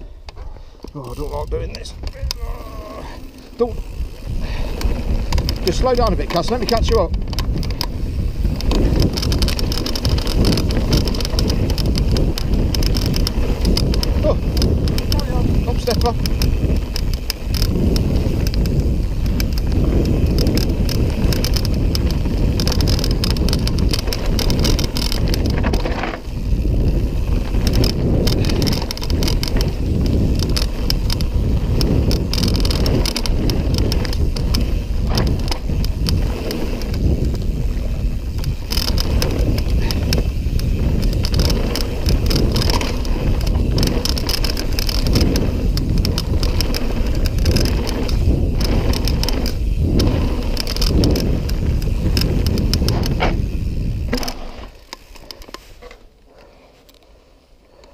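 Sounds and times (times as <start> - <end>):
wind rumbling on microphone: 0.0 - 56.4
bike rattling over bumps: 0.1 - 57.9
tyres on dirt: 0.1 - 57.9.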